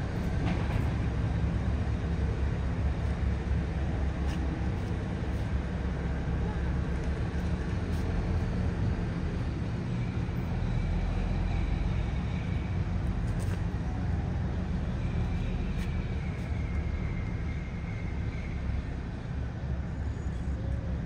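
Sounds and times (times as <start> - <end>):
low city rumble: 0.0 - 21.0
road traffic: 0.0 - 21.0.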